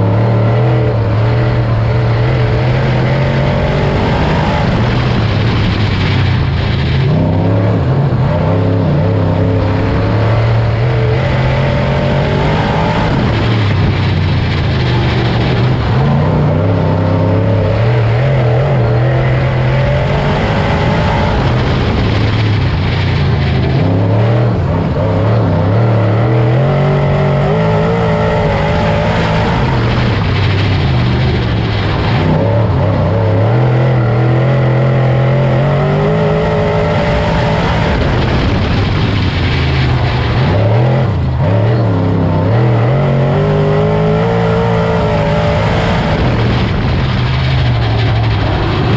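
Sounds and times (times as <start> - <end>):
race car engine running hard: 0.0 - 48.9.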